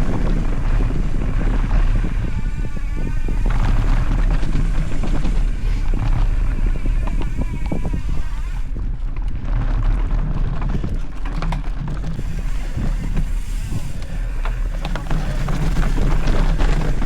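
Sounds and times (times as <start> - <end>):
bike knocks and rattles: 0.0 - 17.0
tyres rumbling on dirt: 0.0 - 17.0
wind rushing over microphone: 0.0 - 17.0.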